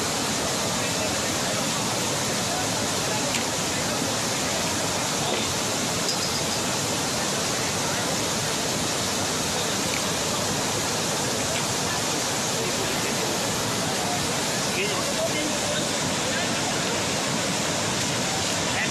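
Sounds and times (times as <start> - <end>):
river rushing over rocks: 0.0 - 18.9.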